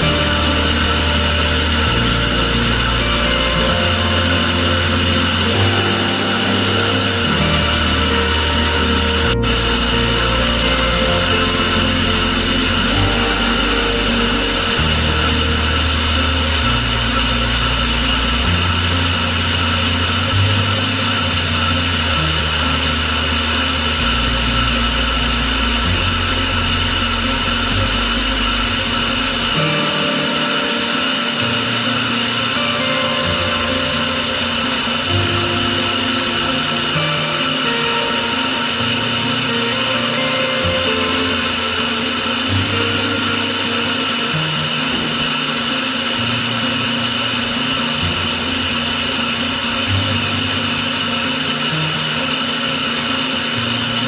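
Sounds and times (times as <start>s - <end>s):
background music with bass line: 0.0s - 54.0s
small power tool running: 0.0s - 54.0s.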